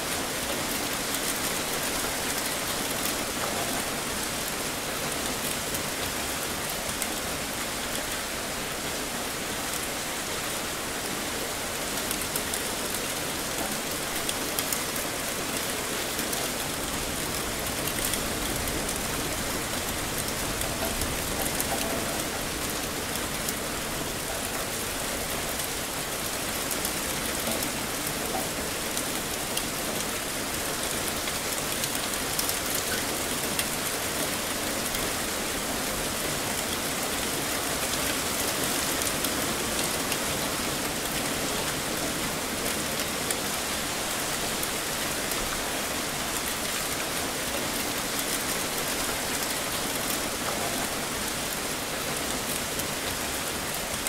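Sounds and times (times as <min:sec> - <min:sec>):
heavy rain on surfaces: 0:00.0 - 0:54.0.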